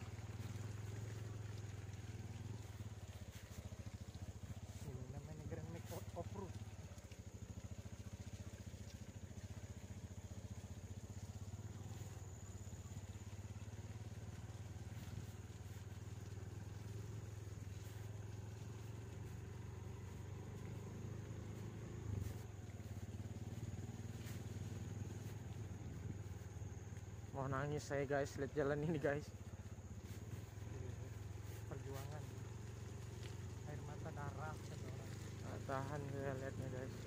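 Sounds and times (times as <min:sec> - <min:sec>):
engine running low drone: 0:00.0 - 0:37.0.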